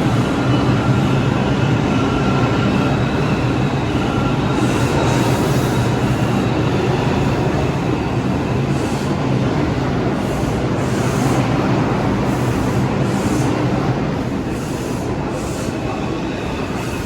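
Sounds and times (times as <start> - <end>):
subway train wheels on rail: 0.0 - 17.0.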